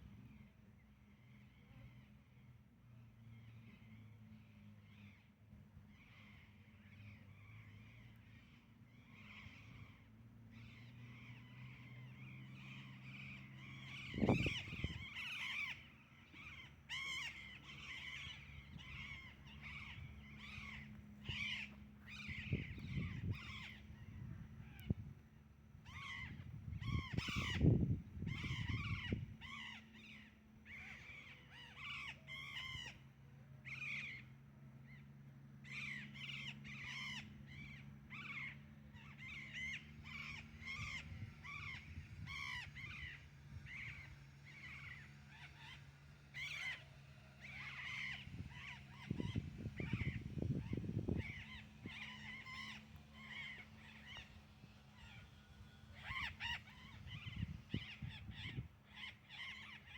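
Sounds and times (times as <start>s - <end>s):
birds calling: 0.0s - 59.9s.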